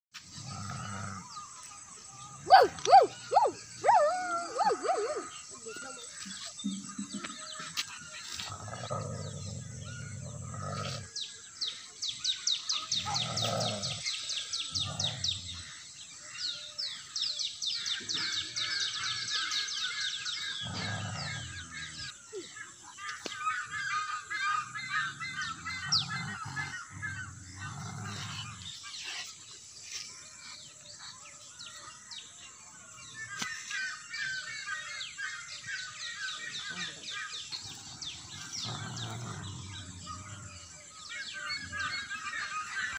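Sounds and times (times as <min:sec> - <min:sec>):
birds chirping and trilling: 0:00.2 - 0:42.9.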